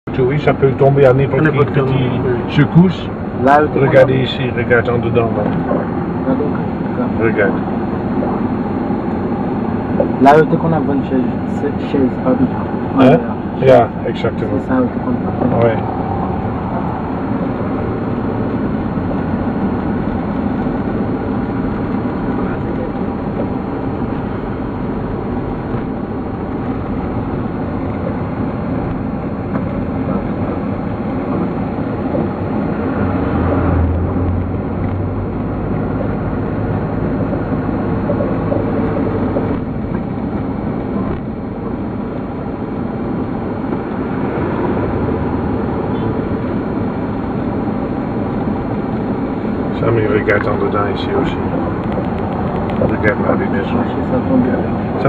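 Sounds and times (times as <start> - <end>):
vehicle engine and road noise: 0.0 - 55.0.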